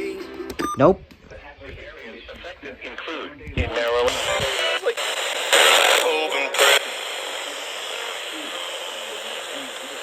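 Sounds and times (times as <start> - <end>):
radio station audio: 0.0 - 10.0
radio static hiss: 1.3 - 10.0.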